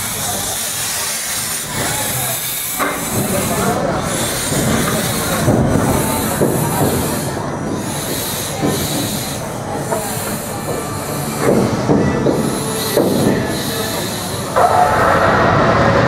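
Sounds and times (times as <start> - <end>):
steam hissing: 0.0 - 16.0
train wheels rumbling and squealing: 0.0 - 16.0.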